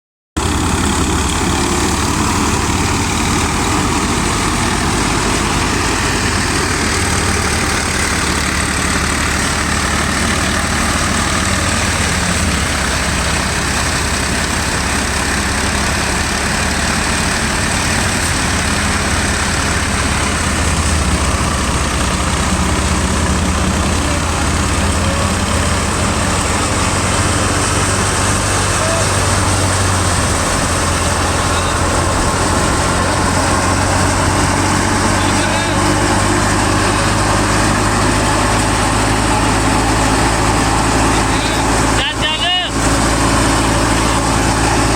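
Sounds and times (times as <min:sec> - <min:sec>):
diesel engine droning: 0:00.4 - 0:44.9
loud rushing clatter: 0:00.4 - 0:44.9.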